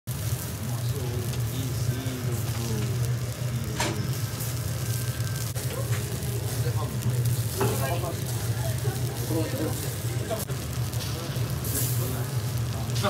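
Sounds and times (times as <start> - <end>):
fish sizzling on grill: 0.1 - 13.0
steady low hum: 0.1 - 13.0
indistinct background voices: 0.5 - 13.0.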